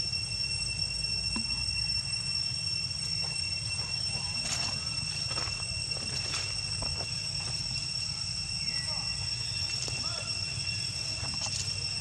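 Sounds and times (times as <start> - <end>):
high-pitched drone: 0.0 - 12.0.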